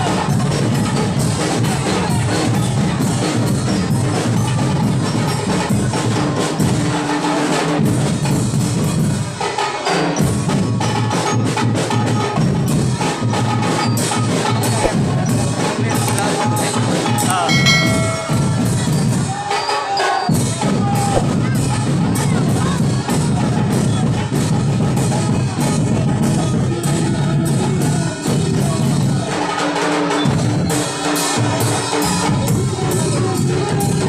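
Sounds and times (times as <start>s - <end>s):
music with fast percussion beat: 0.0s - 34.0s.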